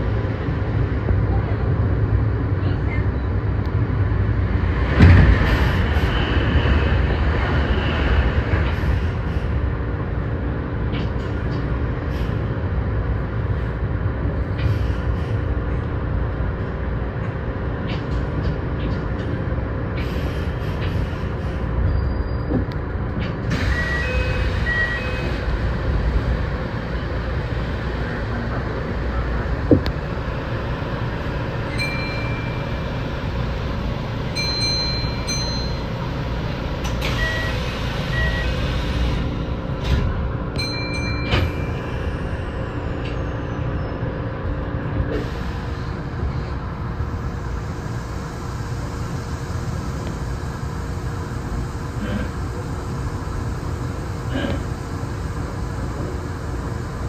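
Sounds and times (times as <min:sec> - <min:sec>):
electric train rumbling on rails: 0:00.0 - 0:57.0.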